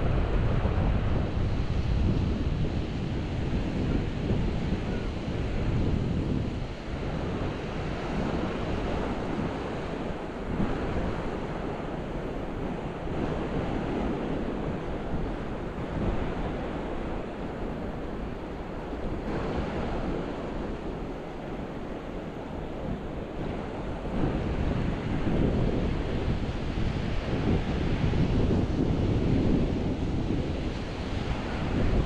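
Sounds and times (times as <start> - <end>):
ocean waves breaking on beach: 0.0 - 32.0
wind rumbling on microphone: 0.0 - 32.0.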